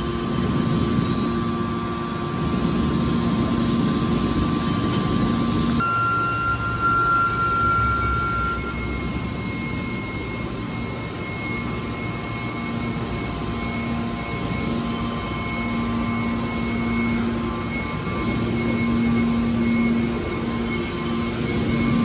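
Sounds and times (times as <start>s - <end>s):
hydraulic power unit humming: 0.0s - 22.0s.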